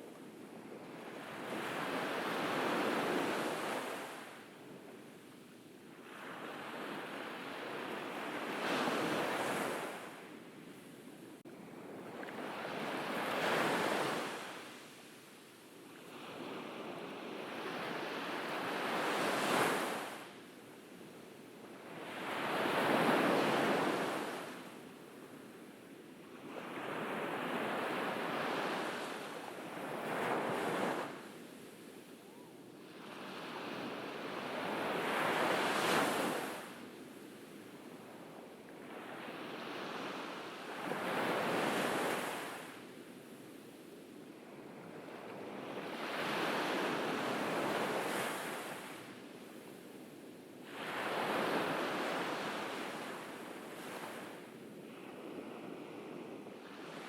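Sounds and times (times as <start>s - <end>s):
ocean waves breaking on beach: 0.6s - 4.5s, 5.9s - 20.5s, 21.7s - 24.8s, 26.4s - 43.8s, 44.4s - 57.0s.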